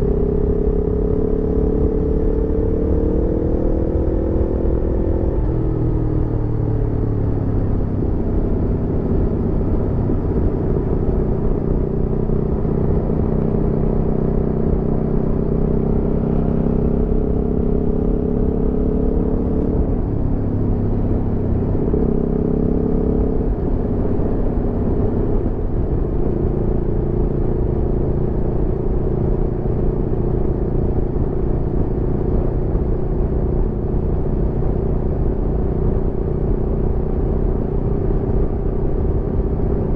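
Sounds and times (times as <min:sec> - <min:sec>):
motorcycle engine running: 0:00.0 - 0:39.9
road rumble: 0:00.0 - 0:39.9.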